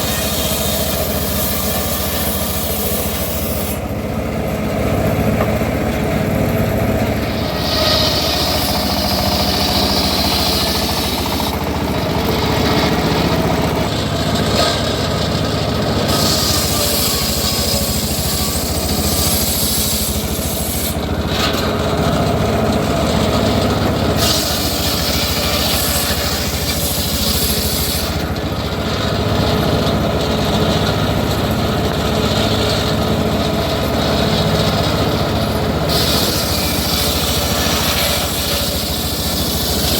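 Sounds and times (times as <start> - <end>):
saw blade ripping logs: 0.0 - 4.0, 5.1 - 39.9
circular sawmill drone: 0.0 - 39.9.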